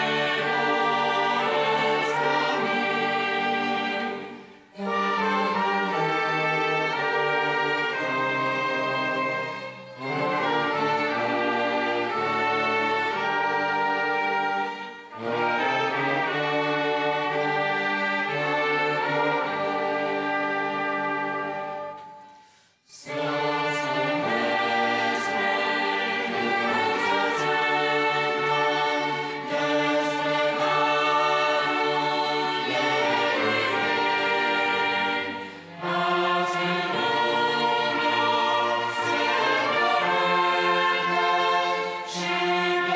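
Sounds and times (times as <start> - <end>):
choir singing a hymn: 0.0 - 22.2, 22.8 - 42.9
string orchestra with flutes: 0.0 - 42.9.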